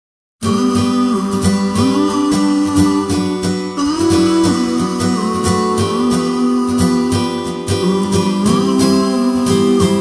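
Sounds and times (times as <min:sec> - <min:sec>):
strummed acoustic guitar music: 0:00.4 - 0:10.0.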